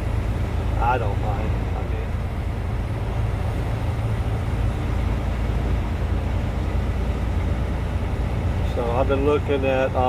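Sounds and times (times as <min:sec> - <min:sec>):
road noise: 0:00.0 - 0:10.0
truck engine drone: 0:00.0 - 0:10.0.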